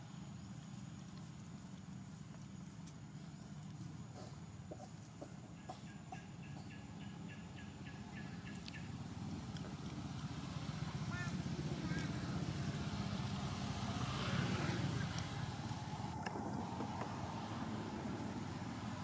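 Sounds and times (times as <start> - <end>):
passing vehicle engine rumble: 0.0 - 19.0.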